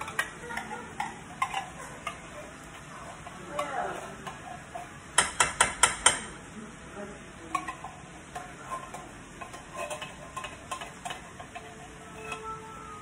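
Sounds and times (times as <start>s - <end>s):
seasoning shaker rattling: 0.0s - 6.0s, 7.5s - 13.0s.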